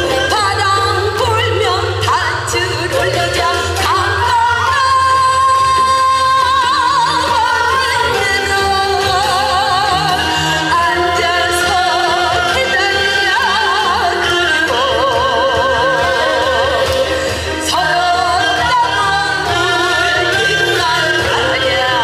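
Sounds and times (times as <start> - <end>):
instrumental accompaniment: 0.0 - 22.0
woman singing into a microphone: 0.0 - 22.0.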